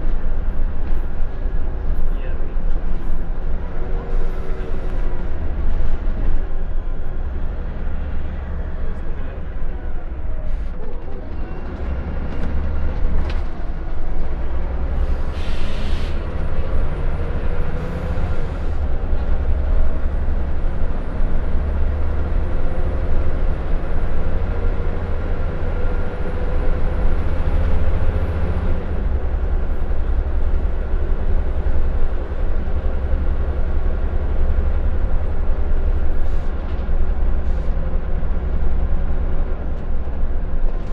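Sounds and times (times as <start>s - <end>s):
bus engine and road rumble: 0.0s - 40.9s.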